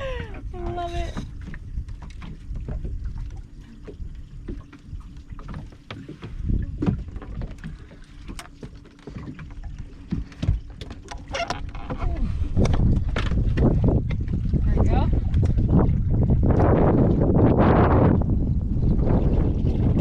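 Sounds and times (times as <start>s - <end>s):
wind on microphone: 0.0s - 8.4s, 9.2s - 20.0s.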